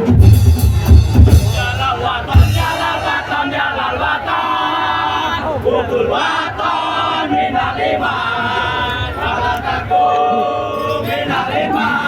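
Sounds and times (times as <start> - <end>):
group chanting and singing: 0.0 - 12.0.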